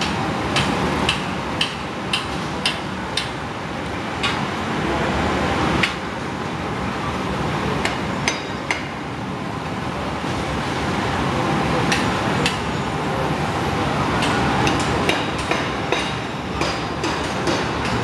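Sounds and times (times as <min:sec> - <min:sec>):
construction site roar: 0:00.0 - 0:18.0.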